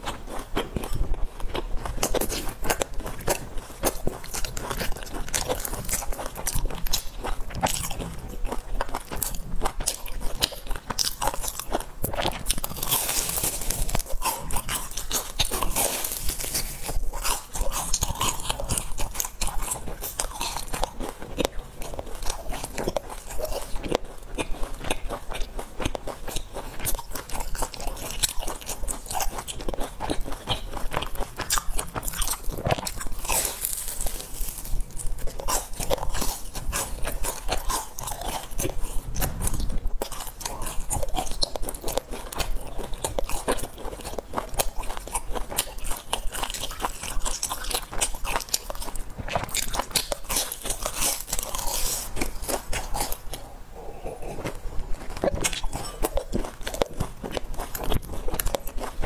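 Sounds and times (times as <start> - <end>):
crunchy chewing: 0.0 - 59.0.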